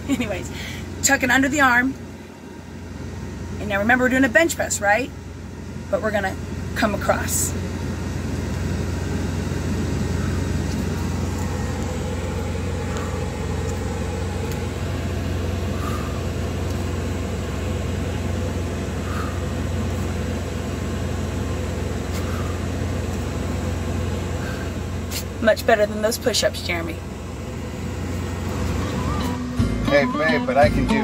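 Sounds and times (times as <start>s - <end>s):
truck engine idling hum: 0.0s - 31.0s.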